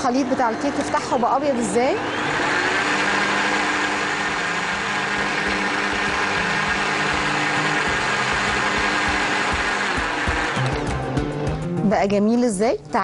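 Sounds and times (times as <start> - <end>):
blender motor running: 0.0 - 11.2.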